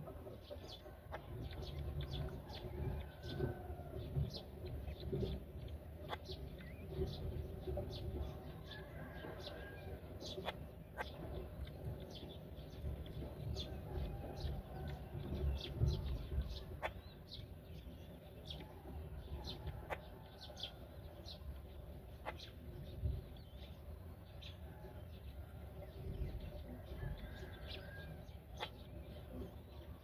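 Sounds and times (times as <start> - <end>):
birds chirping: 0.0 - 30.0
steady low rumble: 0.0 - 30.0.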